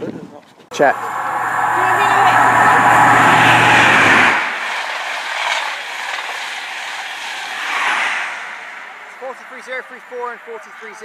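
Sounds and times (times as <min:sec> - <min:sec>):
train passing at speed: 0:00.7 - 0:10.2.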